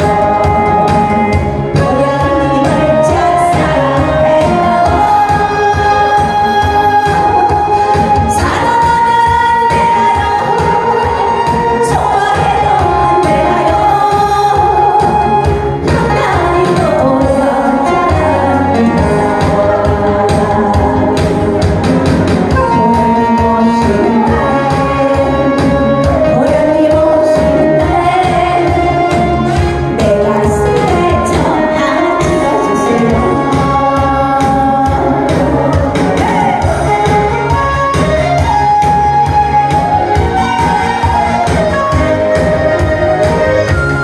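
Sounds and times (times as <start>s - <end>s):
recorded backing music: 0.0s - 44.0s
woman singing into microphone: 0.0s - 44.0s.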